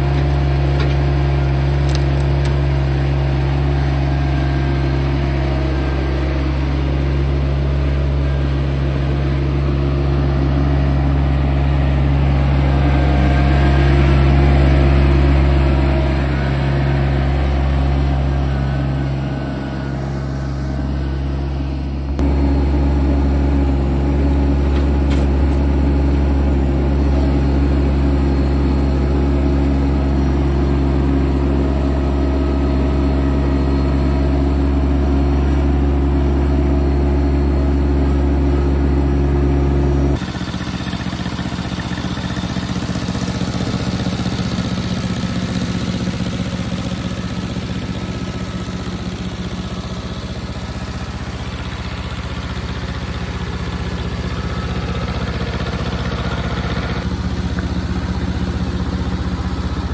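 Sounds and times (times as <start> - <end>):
machine engine running: 0.0 - 59.9.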